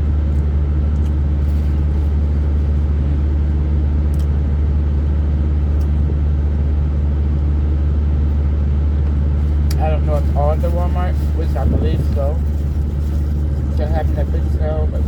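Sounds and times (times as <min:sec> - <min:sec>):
truck engine drone: 0:00.0 - 0:15.0.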